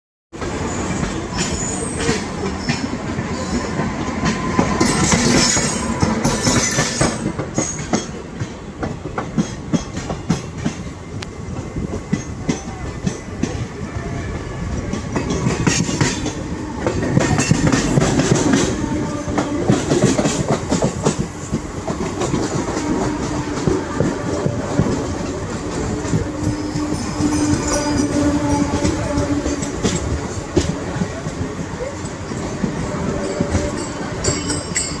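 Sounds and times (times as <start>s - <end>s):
train wheels clattering over rail joints: 0.4s - 13.8s, 14.7s - 35.0s.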